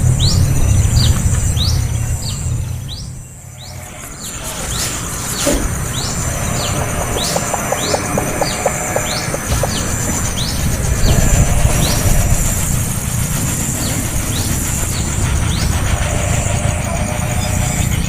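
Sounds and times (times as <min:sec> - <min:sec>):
small birds chirping: 0:00.0 - 0:18.0
low rumble: 0:01.8 - 0:18.0
high-pitched drone: 0:03.3 - 0:18.0.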